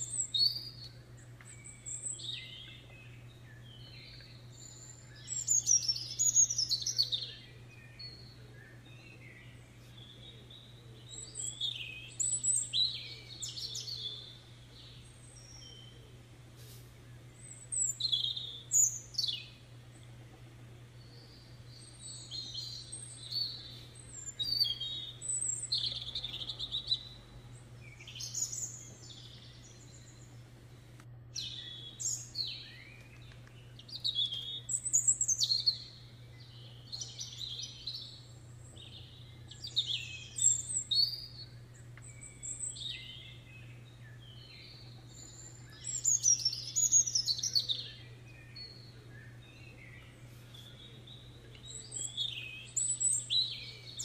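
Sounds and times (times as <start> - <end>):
songbirds chirping and singing: 0.0 - 54.0
steady low hum: 0.0 - 54.0.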